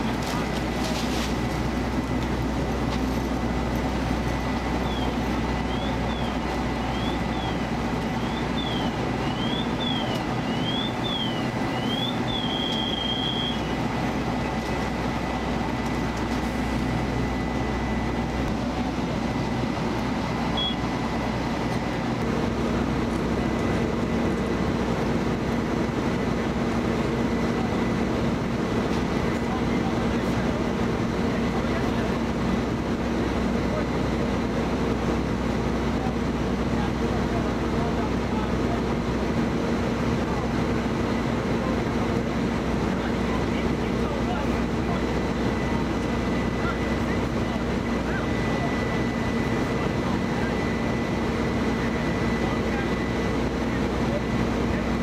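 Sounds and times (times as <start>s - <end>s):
fire engine droning: 0.0s - 55.0s.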